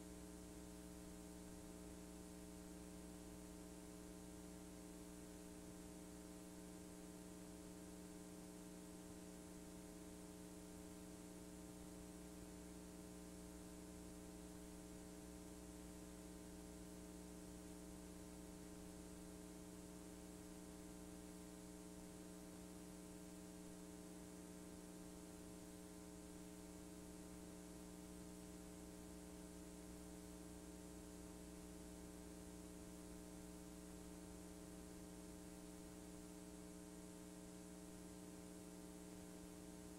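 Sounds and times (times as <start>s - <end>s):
mains hum: 0.0s - 39.9s.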